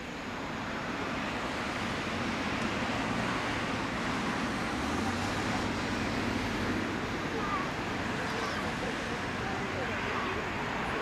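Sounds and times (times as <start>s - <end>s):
jet engines roaring at takeoff: 0.0s - 11.0s.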